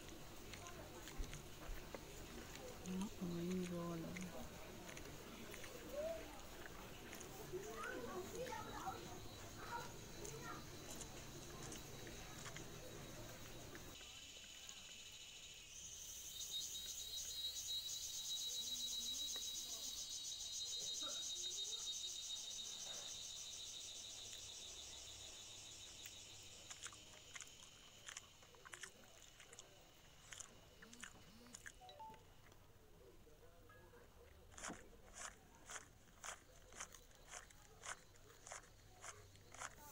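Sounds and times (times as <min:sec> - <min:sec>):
chewing and crunching food: 0:00.0 - 0:15.2, 0:22.7 - 0:39.9.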